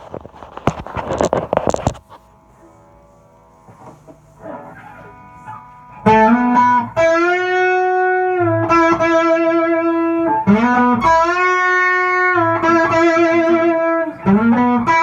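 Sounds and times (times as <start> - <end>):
electric guitar with string bends: 0.1 - 15.0.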